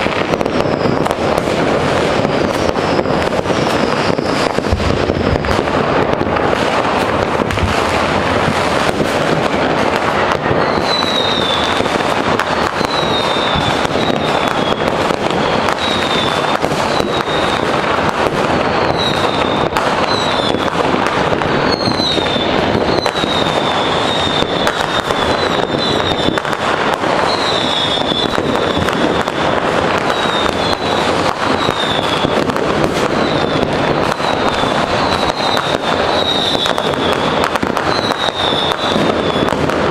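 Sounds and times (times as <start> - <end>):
fireworks crackling and banging: 0.0 - 39.9
fireworks falling whistles: 0.0 - 39.9.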